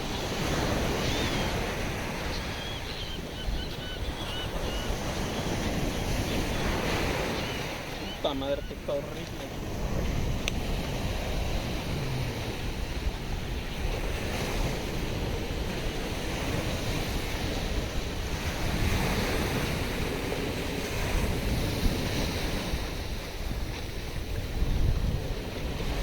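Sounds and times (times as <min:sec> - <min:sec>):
surf rushing: 0:00.0 - 0:26.0
wind buffeting microphone: 0:00.0 - 0:26.0.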